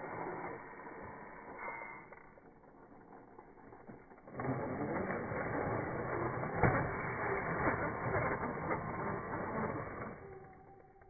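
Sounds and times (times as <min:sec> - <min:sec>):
toy car motor grinding: 0:00.0 - 0:11.0.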